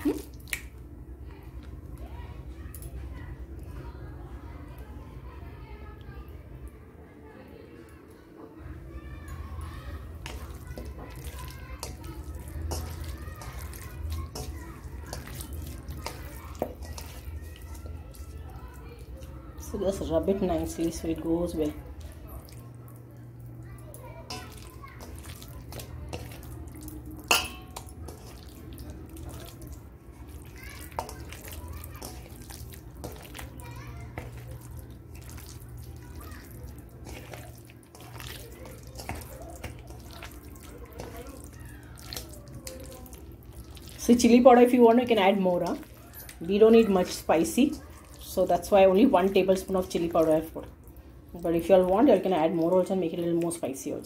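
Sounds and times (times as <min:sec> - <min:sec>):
hand squishing meat in marinade: 0:00.0 - 0:03.6, 0:09.3 - 0:54.0.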